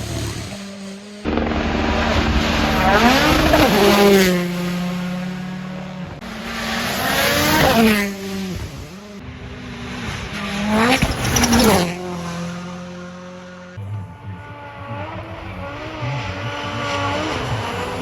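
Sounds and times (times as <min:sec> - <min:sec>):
rally cars passing at high revs: 0:00.0 - 0:18.0.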